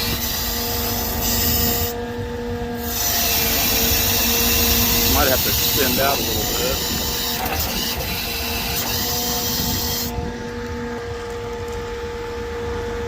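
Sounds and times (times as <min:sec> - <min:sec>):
engine noise: 0:00.0 - 0:13.0
hydraulic machinery whining: 0:00.0 - 0:13.0.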